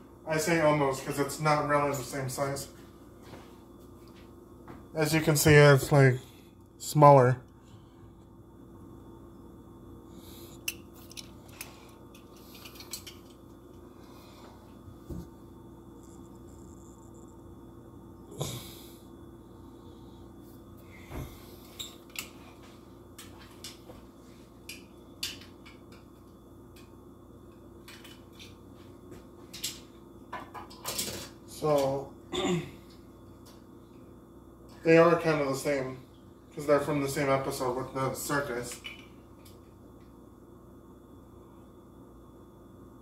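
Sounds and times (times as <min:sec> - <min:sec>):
low room hum: 0:00.0 - 0:43.0.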